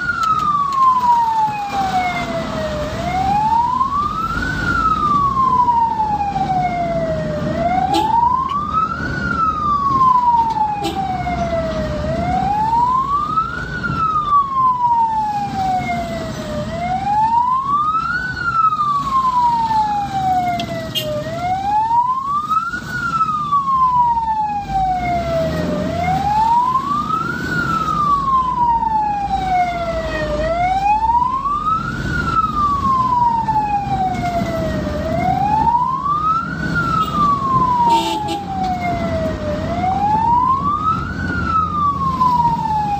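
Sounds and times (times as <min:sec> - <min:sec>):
ambulance siren wailing: 0:00.0 - 0:42.9
engine and road noise: 0:00.0 - 0:42.9.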